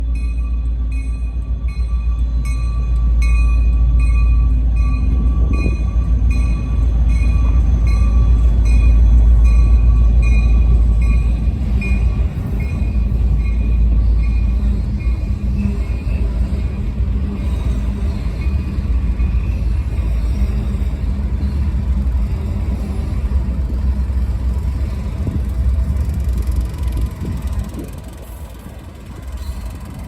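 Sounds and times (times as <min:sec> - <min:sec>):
diesel freight train rumbling: 0:00.0 - 0:30.0.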